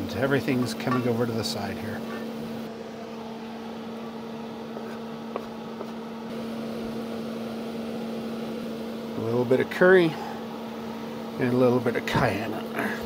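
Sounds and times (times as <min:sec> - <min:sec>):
appliance or fan humming: 0:00.0 - 0:13.0.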